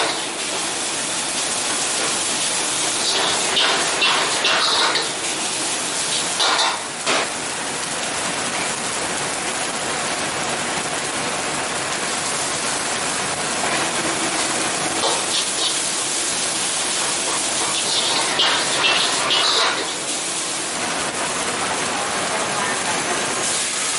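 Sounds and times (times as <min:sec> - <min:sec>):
noodles sizzling in a wok: 0:00.0 - 0:08.2, 0:11.6 - 0:23.9.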